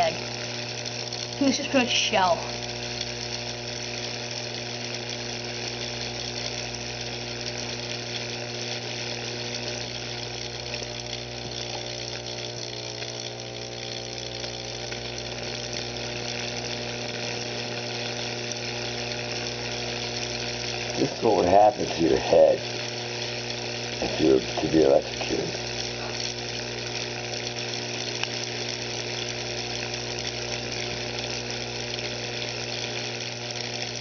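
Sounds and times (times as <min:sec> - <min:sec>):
electric arc buzzing and hissing: 0:00.0 - 0:34.0.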